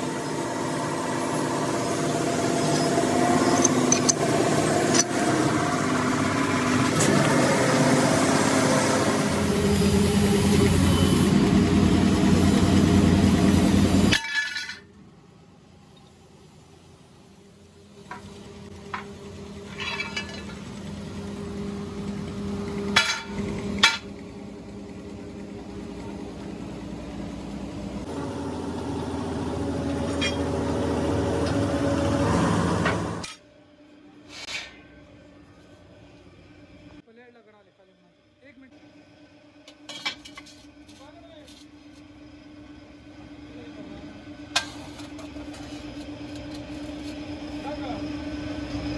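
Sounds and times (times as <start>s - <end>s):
press machinery humming: 0.0s - 37.0s, 37.8s - 48.9s.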